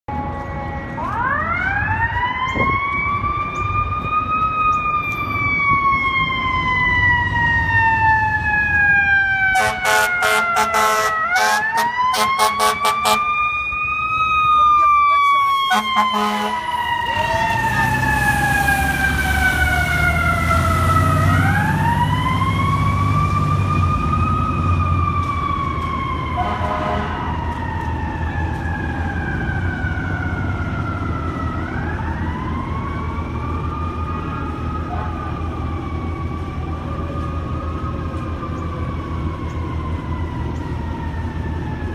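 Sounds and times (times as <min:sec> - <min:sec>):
siren wailing: 0:00.1 - 0:41.9.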